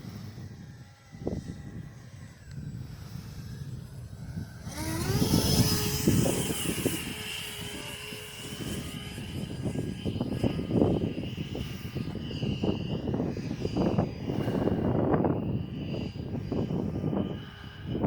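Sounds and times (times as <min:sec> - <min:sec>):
electric ducted fans whining: 0:00.0 - 0:18.0
wind buffeting microphone: 0:00.0 - 0:18.0.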